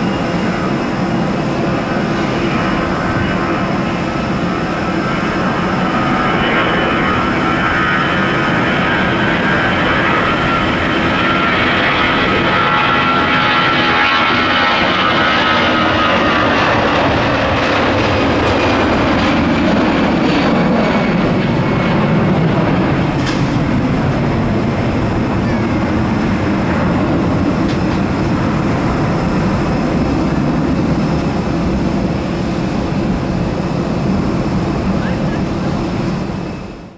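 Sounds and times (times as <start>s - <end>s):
deep jet rumble: 0.0s - 36.9s
jet engine fan whine: 0.0s - 36.9s.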